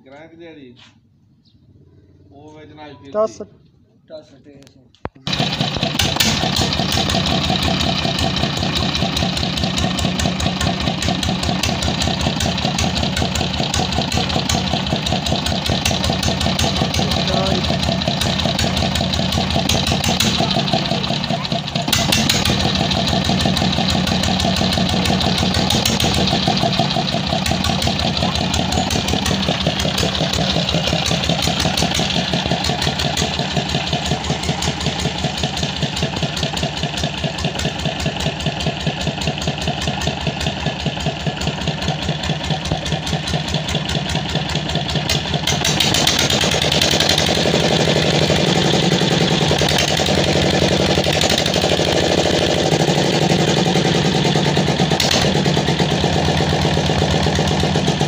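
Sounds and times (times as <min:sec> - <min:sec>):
single-cylinder diesel engine running: 0:05.2 - 0:58.0.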